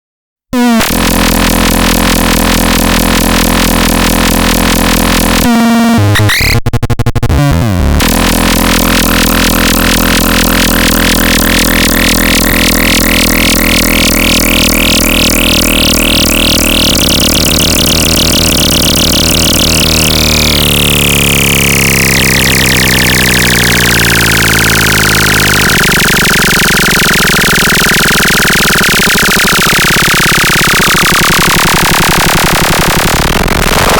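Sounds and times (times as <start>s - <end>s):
buzzy synthesizer drone: 0.6s - 33.9s.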